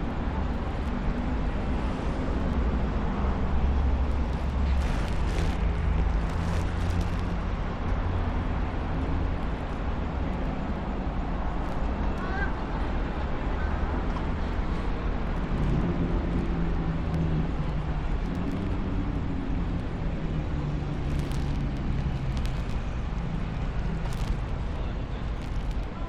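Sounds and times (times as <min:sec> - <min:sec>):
street traffic: 0:00.0 - 0:26.0
vehicle engine humming: 0:00.0 - 0:26.0.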